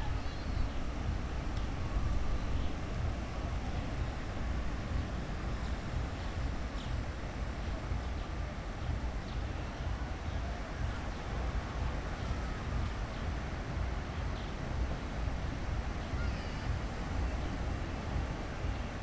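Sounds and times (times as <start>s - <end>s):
sea surf on a beach: 0.0s - 19.0s
wind buffeting microphone: 0.0s - 19.0s.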